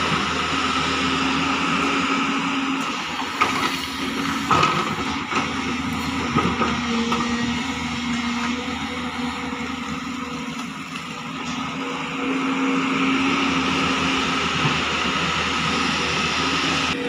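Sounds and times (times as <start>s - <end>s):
excavator diesel engine under load: 0.0s - 17.0s.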